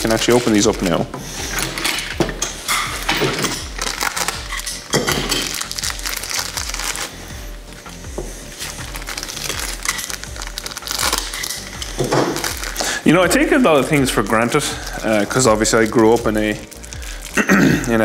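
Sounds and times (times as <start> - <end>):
plastic bag crinkling: 0.0 - 7.8, 8.4 - 18.0
background music with bass: 0.0 - 18.0.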